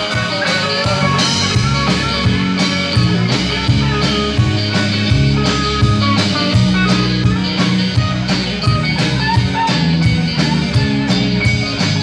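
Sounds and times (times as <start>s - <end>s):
acoustic and electric guitars: 0.0s - 12.0s
bass guitar: 0.0s - 12.0s
drum kit steady beat: 0.0s - 12.0s.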